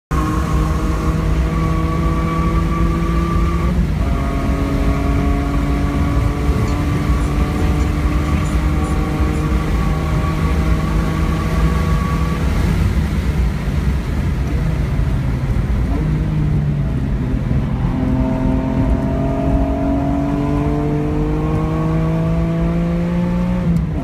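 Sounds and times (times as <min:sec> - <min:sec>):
car engine at full throttle: 0:00.1 - 0:24.0
wind noise: 0:00.1 - 0:24.0.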